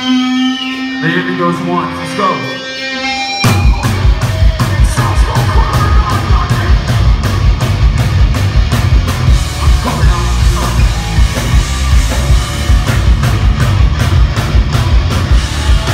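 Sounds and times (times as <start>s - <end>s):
heavy rock band playing: 0.0s - 15.9s.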